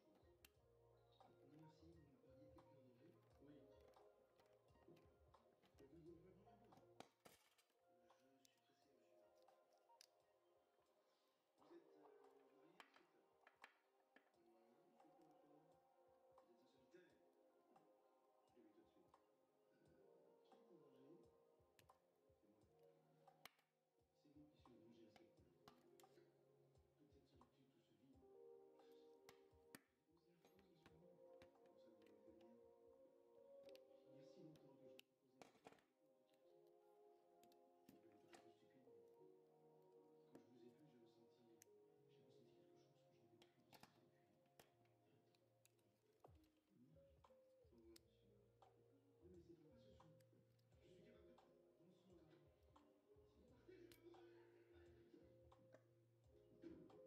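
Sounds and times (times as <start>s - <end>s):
faint background music: 0.0s - 57.0s.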